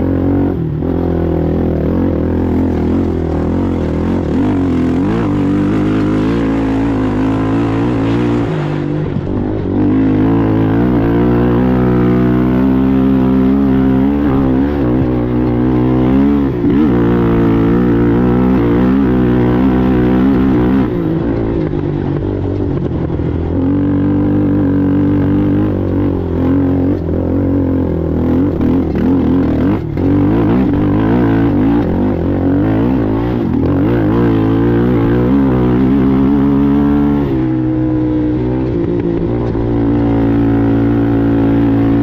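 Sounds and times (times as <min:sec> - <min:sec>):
atv engine revving: 0:00.0 - 0:42.0.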